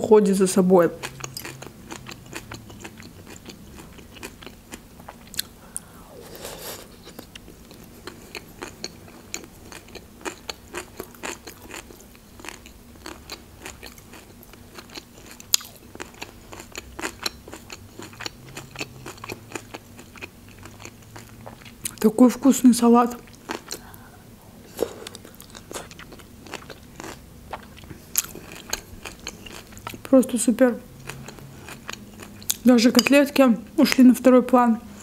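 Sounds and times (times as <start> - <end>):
crunchy salad chewing: 1.0 - 5.6, 6.2 - 22.0, 23.1 - 23.9, 24.6 - 30.1, 31.0 - 33.1.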